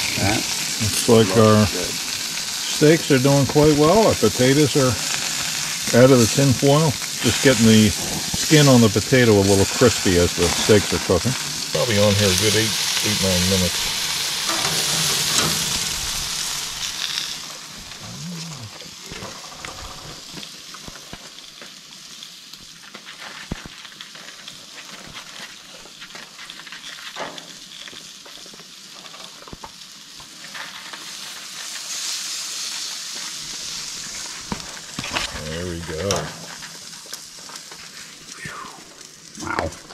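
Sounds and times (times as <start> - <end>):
steaks sizzling on grill: 0.0 - 39.9.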